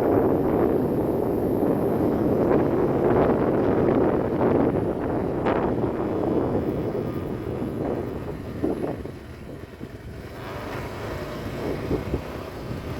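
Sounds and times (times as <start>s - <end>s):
aircraft engine rumble: 0.0s - 12.9s.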